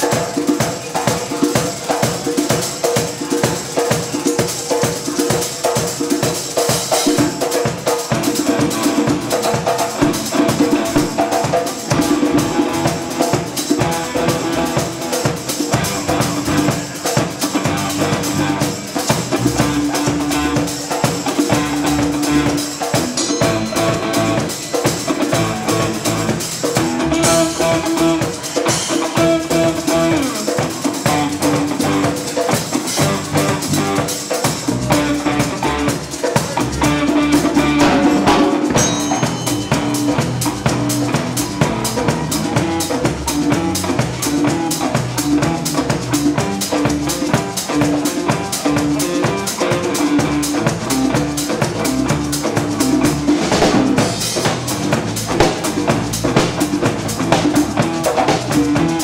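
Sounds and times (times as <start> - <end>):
drum kit beat: 0.0 - 59.0
electric guitar riff: 6.7 - 59.0
bass guitar riff: 8.2 - 32.2, 32.8 - 59.0.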